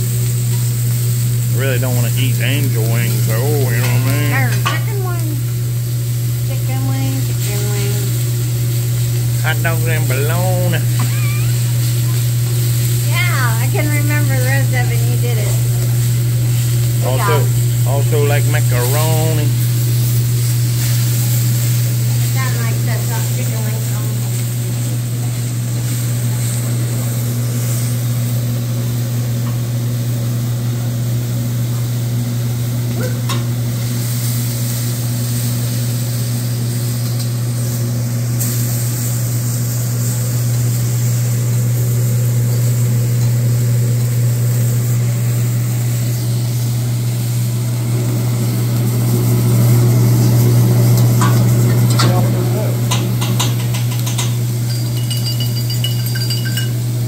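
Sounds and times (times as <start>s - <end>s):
food sizzling on a griddle: 0.0s - 57.0s
steady low hum: 0.0s - 57.0s.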